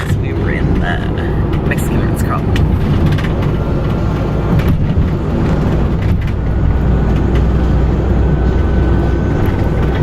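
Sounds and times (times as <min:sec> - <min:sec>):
vehicle rumble from inside cabin: 0:00.0 - 0:10.0.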